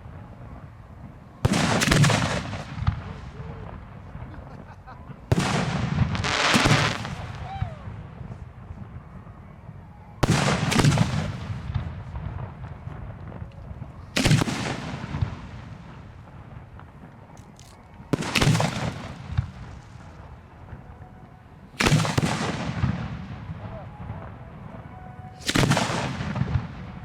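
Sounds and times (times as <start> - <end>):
fireworks booming: 0.0 - 17.3, 18.1 - 27.0.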